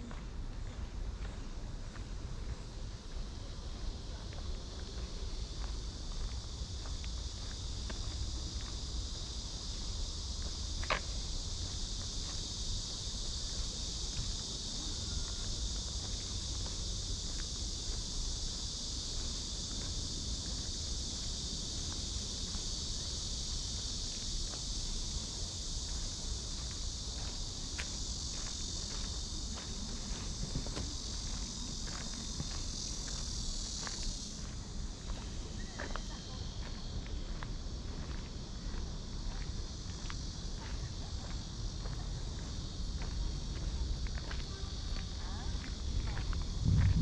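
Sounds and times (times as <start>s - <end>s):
cicadas buzzing: 0.0s - 47.0s
footsteps on a path: 0.0s - 47.0s.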